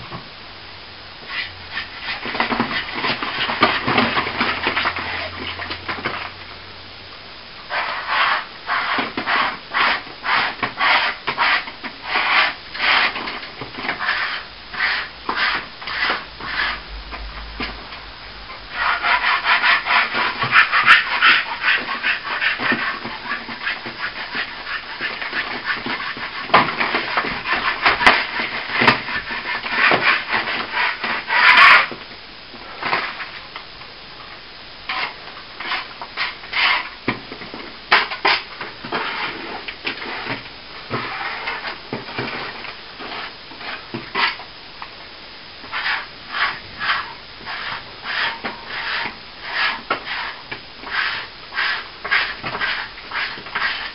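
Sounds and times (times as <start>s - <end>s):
hand tool scraping plaster: 1.2s - 6.3s, 7.7s - 17.7s, 18.7s - 32.0s, 34.9s - 44.4s, 45.6s - 53.9s.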